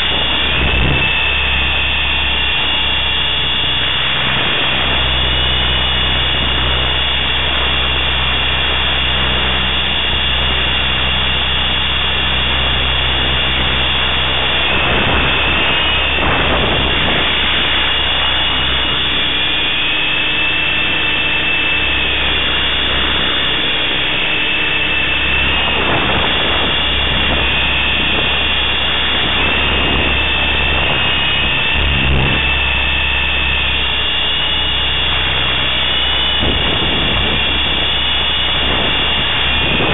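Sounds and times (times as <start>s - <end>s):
rc helicopter motor whine: 0.0s - 39.9s
rotors rushing: 0.0s - 39.9s.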